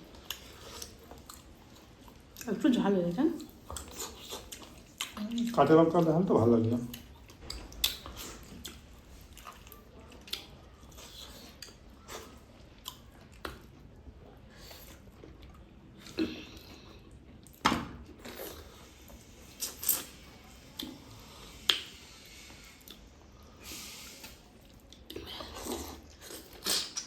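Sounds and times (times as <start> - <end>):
chewing and eating: 0.0 - 6.1, 6.7 - 27.0.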